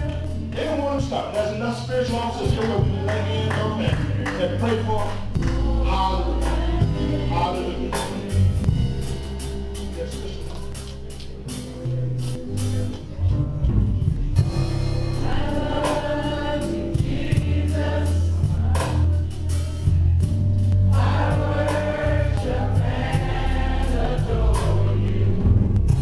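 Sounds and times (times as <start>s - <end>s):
gospel choir singing: 0.0s - 12.9s, 14.4s - 19.6s, 20.8s - 26.0s
band with strong bass line: 0.0s - 26.0s.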